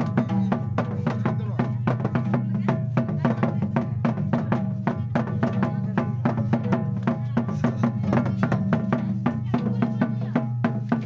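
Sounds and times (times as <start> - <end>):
hand drums playing fast rhythm: 0.0 - 11.0.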